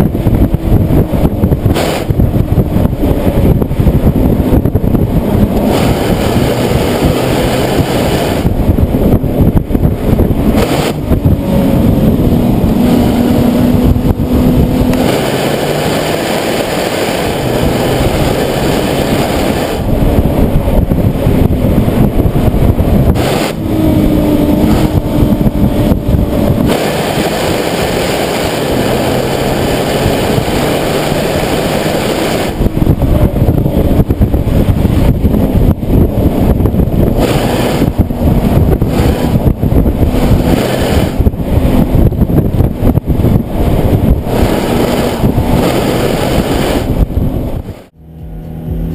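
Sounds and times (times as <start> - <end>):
car engine revving under load: 0.0 - 48.9
road and wind noise: 0.0 - 48.9.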